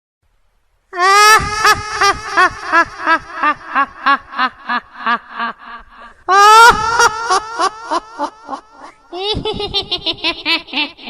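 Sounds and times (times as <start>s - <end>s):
ghost voice cackling: 1.0s - 11.0s.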